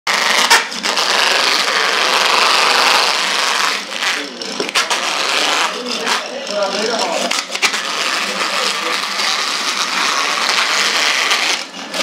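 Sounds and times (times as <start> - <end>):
fish scaler scraping scales: 0.1 - 12.0.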